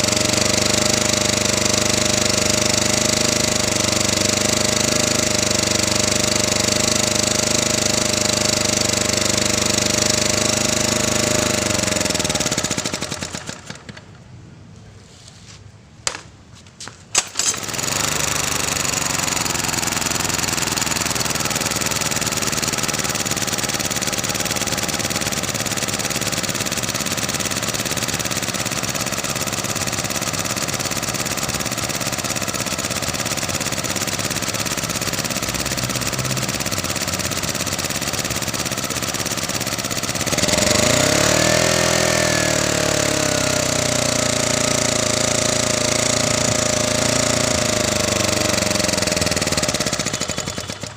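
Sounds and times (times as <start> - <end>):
generator engine running: 0.0 - 14.2, 17.1 - 50.9.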